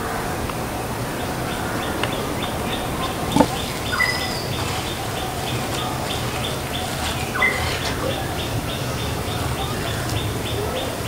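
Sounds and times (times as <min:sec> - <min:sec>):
birds chirping: 0:00.6 - 0:11.0
loud bird call: 0:01.1 - 0:11.0.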